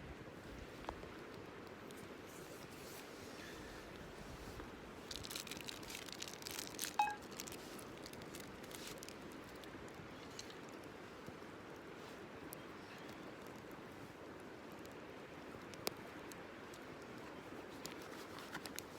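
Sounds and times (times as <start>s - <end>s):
crinkling handling noises: 0.7s - 15.0s, 15.6s - 18.9s.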